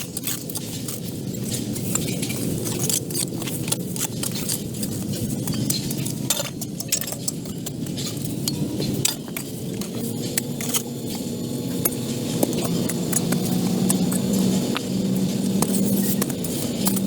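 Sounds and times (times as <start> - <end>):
hard objects clinking together: 0.0 - 17.0.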